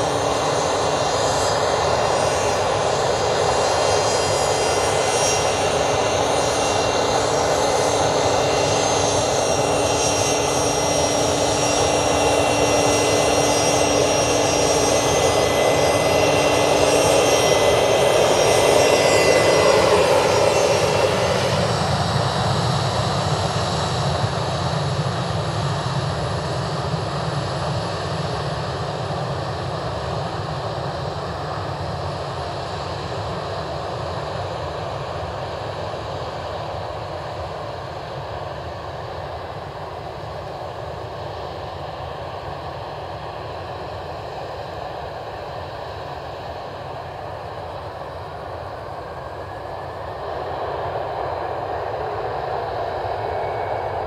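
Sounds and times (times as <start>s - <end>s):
jet engines whining and rumbling: 0.0s - 54.0s.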